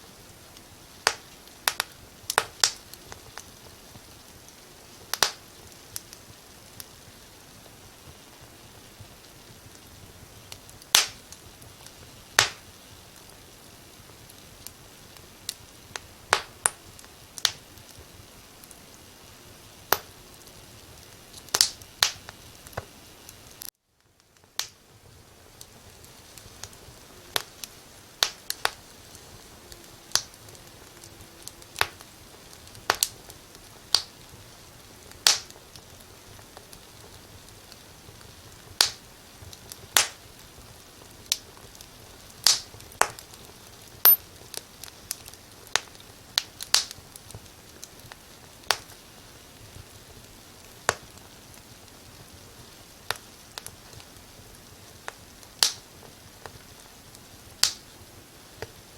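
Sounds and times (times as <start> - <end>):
soft hiss of fire: 0.0 - 58.9
wood fire pops: 1.0 - 13.4, 14.0 - 19.0, 19.8 - 29.3, 31.8 - 34.4, 35.0 - 49.0, 49.6 - 57.9.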